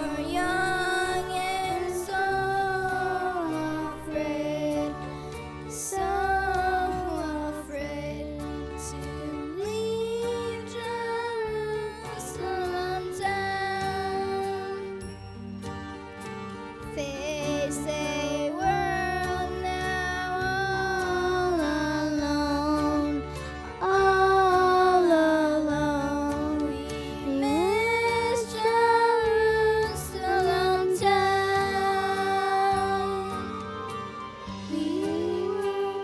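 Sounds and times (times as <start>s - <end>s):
instrumental accompaniment: 0.0s - 36.0s
voices singing slow melody: 0.0s - 36.0s.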